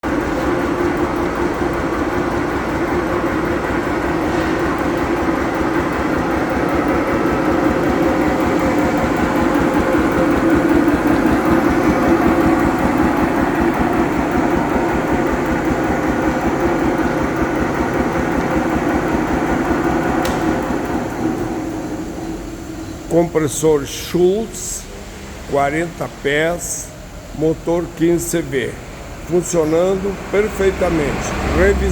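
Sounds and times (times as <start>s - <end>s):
air compressor running: 0.0s - 31.9s.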